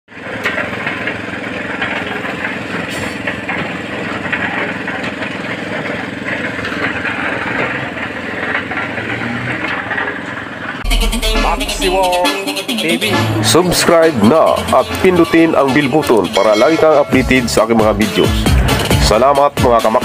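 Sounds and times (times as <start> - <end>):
engine running steadily: 0.1 - 20.0.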